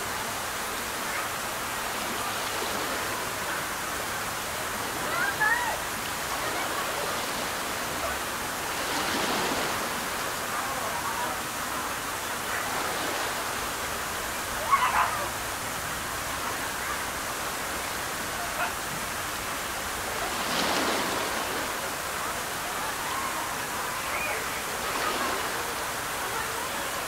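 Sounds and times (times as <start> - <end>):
water running into pond: 0.0 - 27.0.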